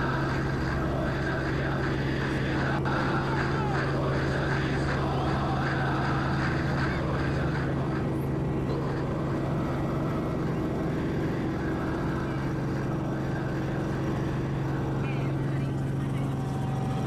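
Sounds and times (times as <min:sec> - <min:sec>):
aircraft engines droning in cabin: 0:00.0 - 0:17.0.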